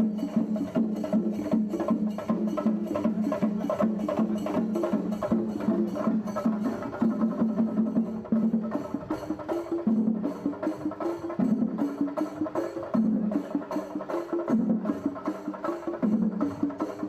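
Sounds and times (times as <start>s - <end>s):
fast drum strokes: 0.0s - 17.0s.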